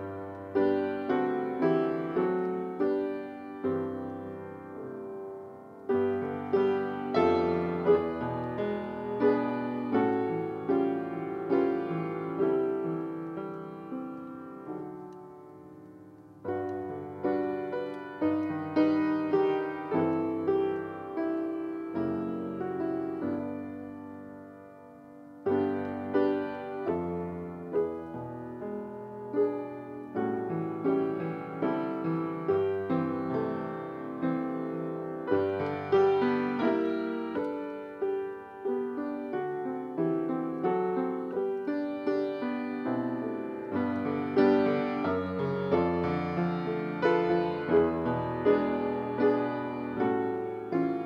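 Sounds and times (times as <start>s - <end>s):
solo piano: 0.0s - 51.0s.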